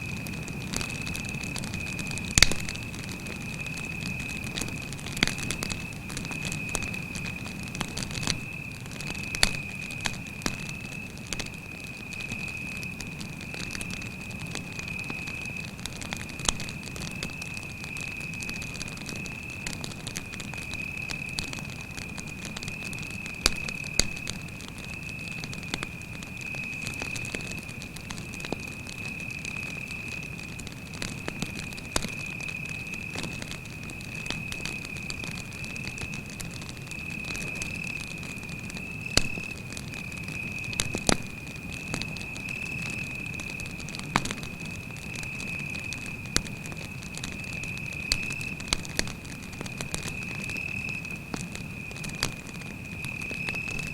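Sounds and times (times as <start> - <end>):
campfire crackling and popping: 0.0 - 53.9
cricket trilling: 0.0 - 53.9.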